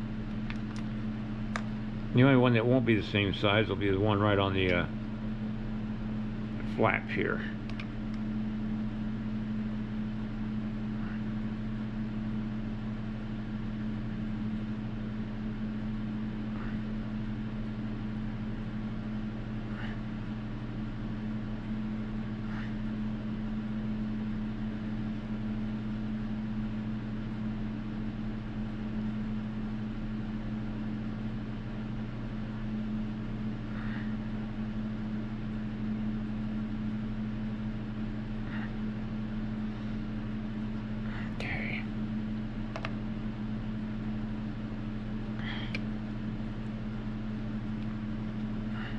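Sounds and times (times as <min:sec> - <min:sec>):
low machine hum: 0:00.0 - 0:48.9.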